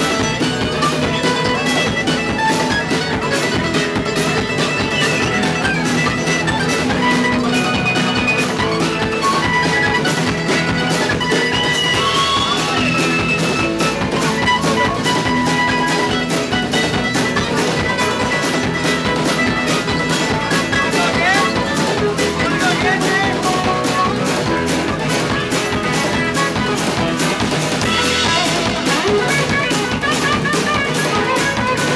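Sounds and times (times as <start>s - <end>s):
drum kit beat: 0.0s - 31.9s
guitar: 0.0s - 31.9s
mandolin picking: 0.0s - 31.9s.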